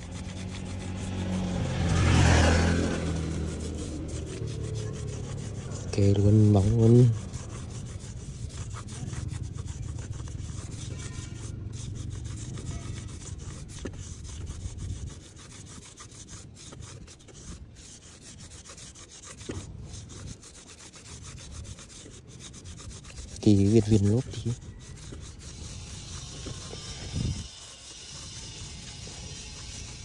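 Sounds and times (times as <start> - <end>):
cloth scrubbing rubber tyre: 0.0 - 30.0.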